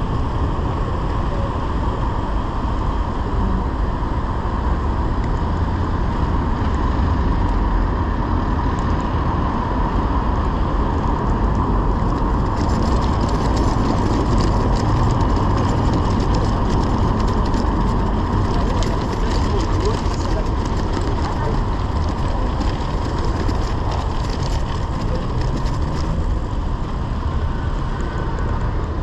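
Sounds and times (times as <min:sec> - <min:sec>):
bicycle tyres rattling on cobblestones: 0:00.0 - 0:29.0
car traffic: 0:00.0 - 0:29.0
wind and road noise: 0:00.0 - 0:29.0.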